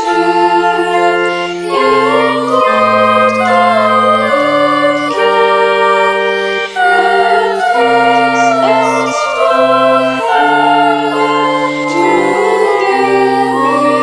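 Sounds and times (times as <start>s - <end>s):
girls' choir singing a carol: 0.0s - 14.0s
low instrumental accompaniment: 0.0s - 14.0s.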